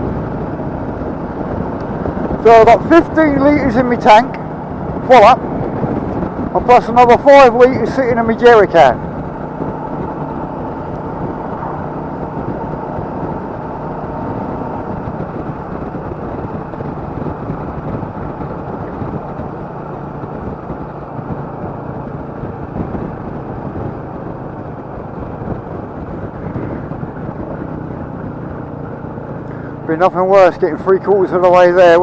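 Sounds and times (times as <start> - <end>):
motorcycle engine running: 0.0 - 32.0
wind and road rush: 0.0 - 32.0.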